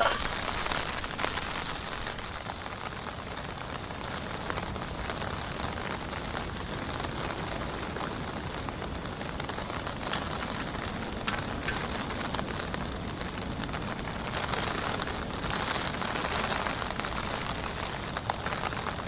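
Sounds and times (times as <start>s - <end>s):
heavy rain pattering: 0.0s - 19.0s.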